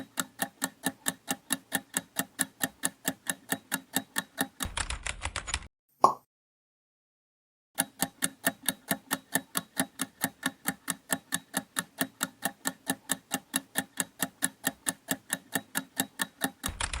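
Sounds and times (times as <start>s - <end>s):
clock ticking: 0.0s - 4.9s, 7.8s - 17.0s.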